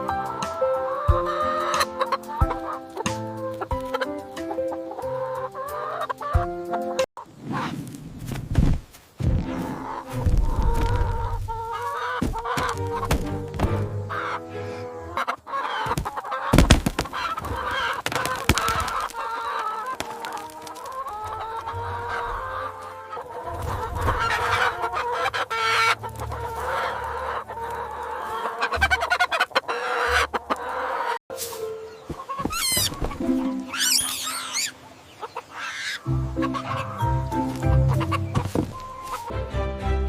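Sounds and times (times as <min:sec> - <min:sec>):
chickens clucking: 0:00.0 - 0:07.7, 0:08.6 - 0:39.4.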